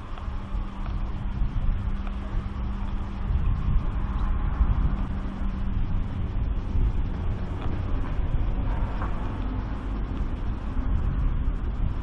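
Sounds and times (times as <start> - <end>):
faint hum: 0.0 - 12.0
low outdoor rumble: 0.0 - 12.0.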